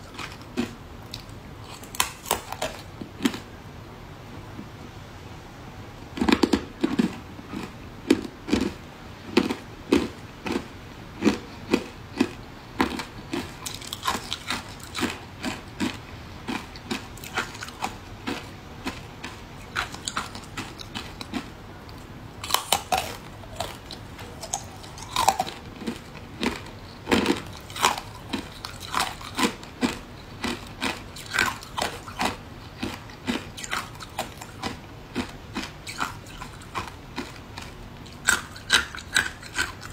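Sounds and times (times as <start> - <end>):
ice being chewed: 0.0 - 3.5, 6.2 - 39.9.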